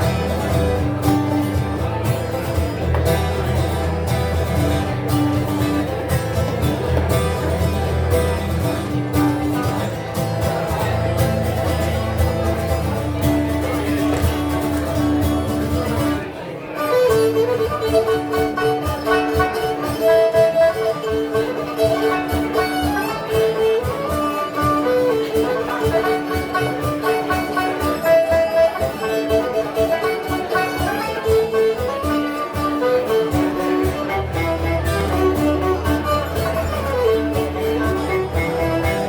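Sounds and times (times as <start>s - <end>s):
folk band playing: 0.0s - 39.0s
guitar and banjo strumming: 0.0s - 39.0s.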